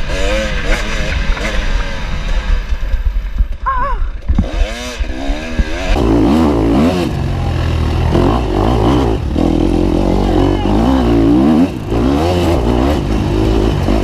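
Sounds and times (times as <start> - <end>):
dirt bike engine revving: 0.0 - 3.3, 4.2 - 14.0.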